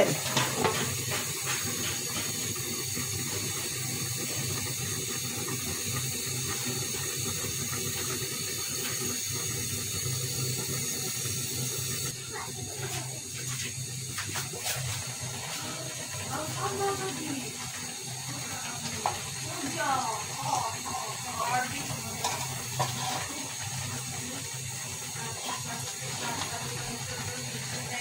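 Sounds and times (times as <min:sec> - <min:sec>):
curry simmering on gas burner: 0:00.0 - 0:28.0.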